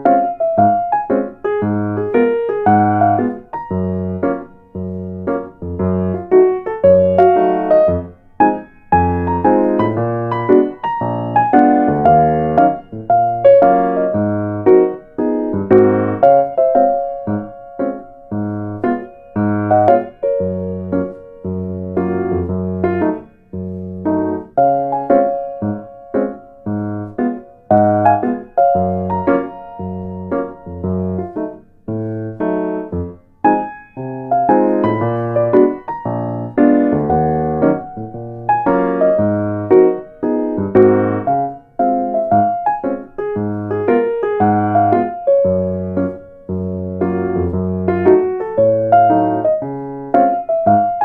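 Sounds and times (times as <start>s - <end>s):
slow piano chords: 0.0s - 51.0s.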